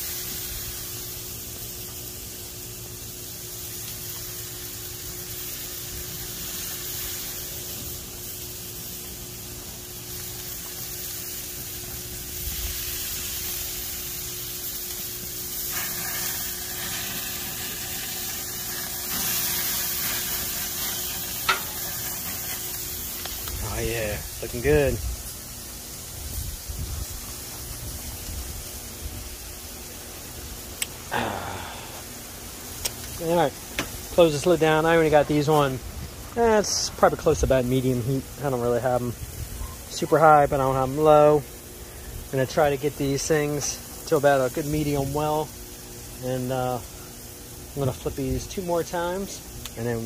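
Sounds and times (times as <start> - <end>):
steaks sizzling on a grill: 0.0 - 50.0.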